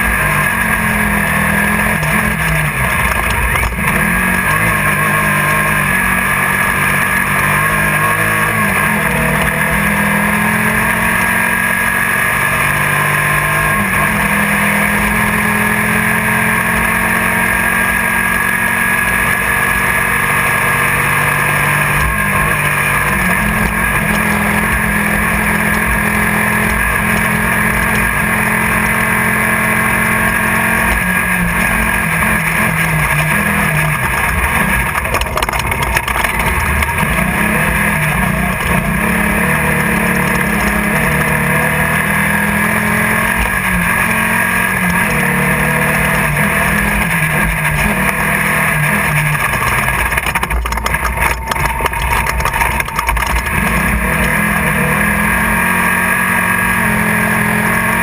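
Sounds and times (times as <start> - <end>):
buggy engine running hard: 0.0 - 58.0.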